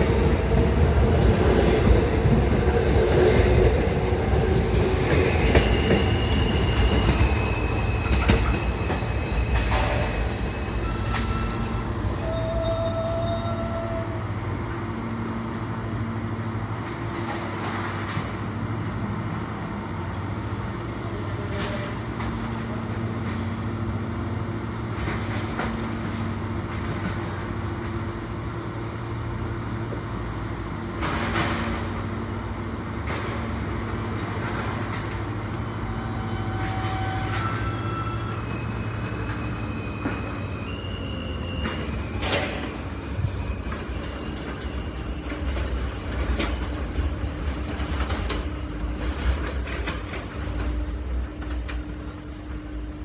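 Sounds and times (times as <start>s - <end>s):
subway train running: 0.0s - 53.0s.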